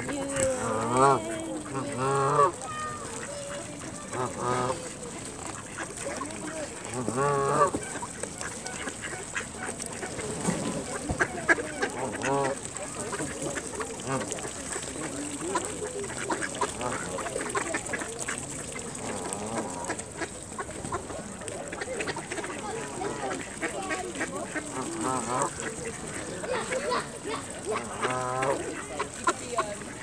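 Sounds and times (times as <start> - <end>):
bills pecking at grain: 0.0 - 30.0
ducks and geese calling: 0.0 - 30.0.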